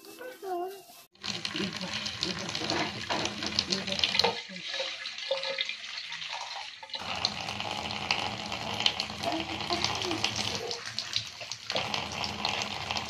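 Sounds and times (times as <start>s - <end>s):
tap running into bathtub: 1.2s - 13.0s
water poured over head: 1.2s - 13.0s.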